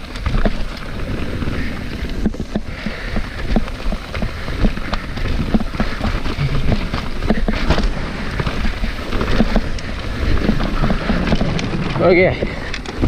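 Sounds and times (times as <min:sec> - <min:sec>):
bike knocking and rattling: 0:00.0 - 0:13.0
bike tyres rumbling over dirt: 0:00.0 - 0:13.0.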